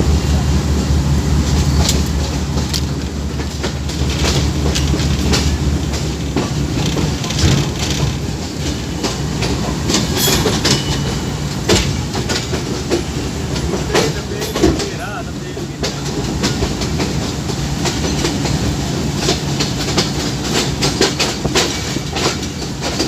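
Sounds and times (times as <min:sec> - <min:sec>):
diesel locomotive drone: 0:00.0 - 0:23.0
train wheels clacking: 0:00.0 - 0:23.0.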